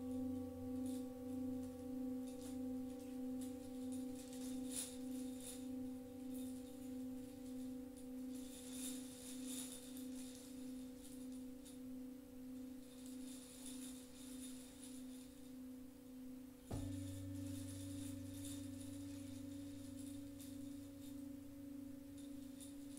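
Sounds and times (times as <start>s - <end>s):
singing bowl ringing: 0.0s - 22.9s.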